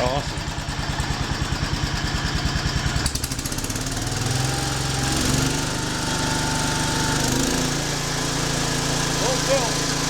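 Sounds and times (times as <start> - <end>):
garden tractor engine running: 0.0 - 10.0.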